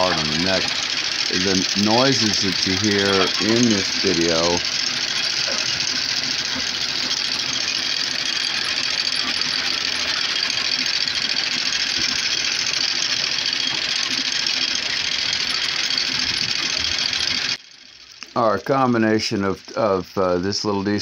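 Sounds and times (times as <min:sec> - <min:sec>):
diesel engine running: 0:00.0 - 0:21.0
sickle bar mower cutting grass: 0:00.0 - 0:21.0.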